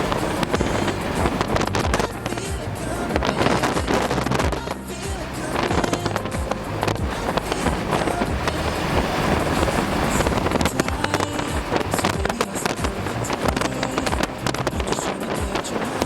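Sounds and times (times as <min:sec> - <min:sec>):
gusty wind buffeting microphone: 0:00.0 - 0:16.0.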